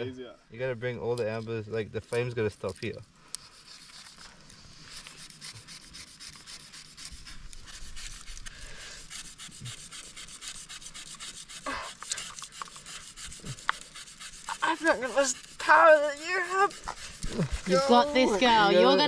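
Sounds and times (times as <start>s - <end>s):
wooden stick scraping wood: 1.0s - 18.8s.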